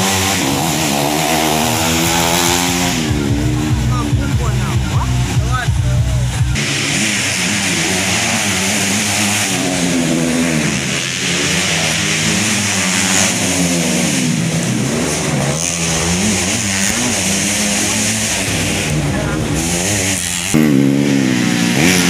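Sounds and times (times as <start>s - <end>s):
motocross motorcycles revving: 0.0s - 22.0s.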